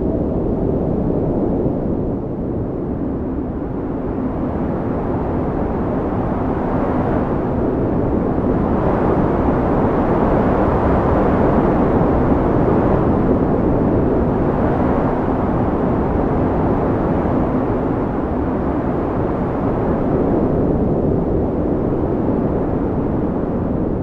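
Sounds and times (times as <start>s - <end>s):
strong wind blowing: 0.0s - 24.0s.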